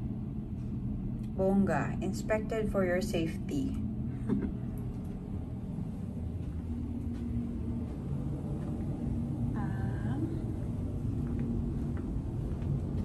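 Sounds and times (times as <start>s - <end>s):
faint steady hum: 0.0s - 13.0s
low background rumble: 0.0s - 13.0s.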